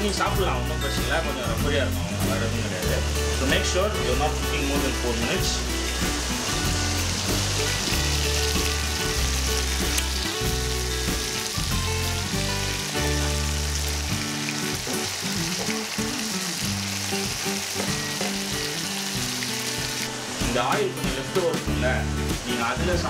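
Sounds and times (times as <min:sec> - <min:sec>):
fish sizzling in oil: 0:00.0 - 0:21.5
background music with bass line: 0:00.0 - 0:23.0.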